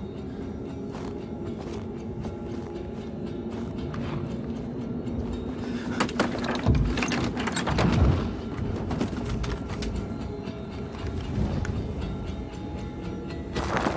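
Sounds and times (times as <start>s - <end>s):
low droning film score: 0.0s - 13.9s.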